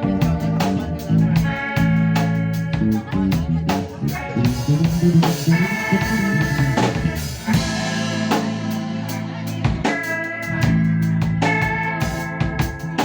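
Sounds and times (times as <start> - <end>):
bass line: 0.0 - 13.0
drum kit: 0.0 - 13.0
live band music: 0.0 - 13.0.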